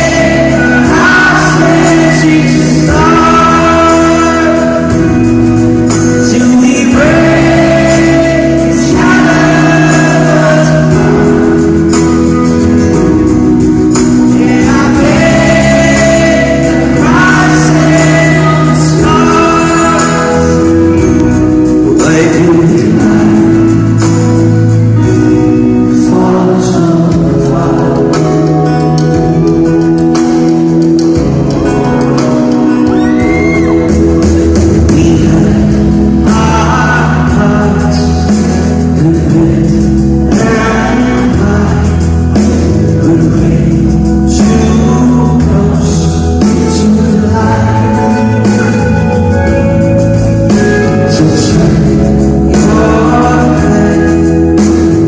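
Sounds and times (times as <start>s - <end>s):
live pop-rock band: 0.0s - 55.0s
male lead singer: 0.0s - 55.0s.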